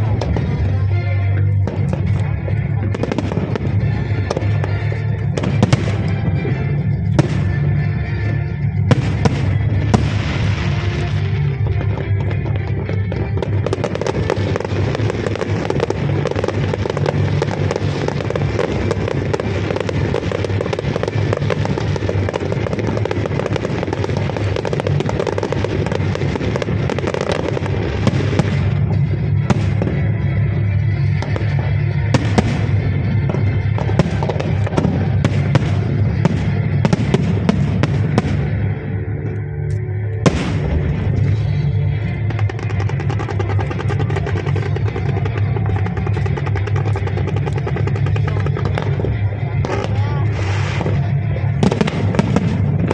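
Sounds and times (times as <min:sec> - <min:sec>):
fireworks crackling and popping: 0:00.0 - 0:52.9
music: 0:00.0 - 0:52.9.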